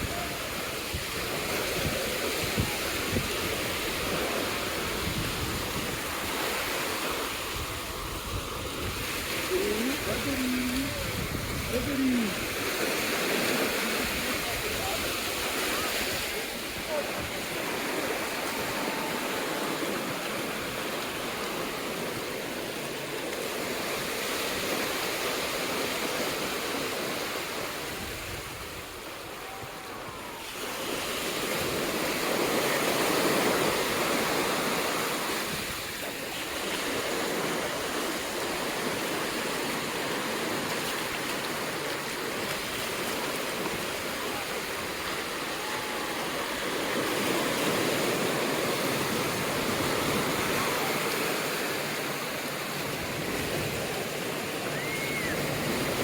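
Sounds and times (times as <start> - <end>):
ocean surf breaking: 0.0 - 56.0.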